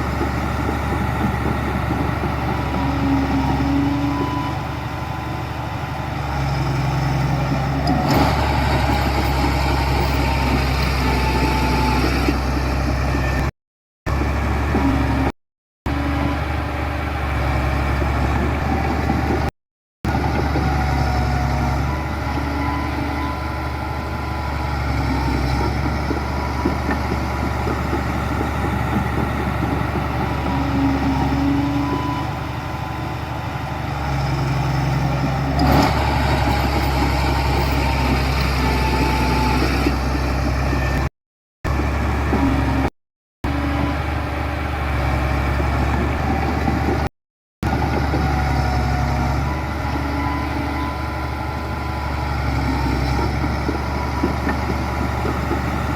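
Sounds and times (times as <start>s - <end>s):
diesel machinery engine drone: 0.0s - 13.5s, 14.1s - 15.3s, 15.9s - 19.5s, 20.1s - 41.1s, 41.7s - 55.9s.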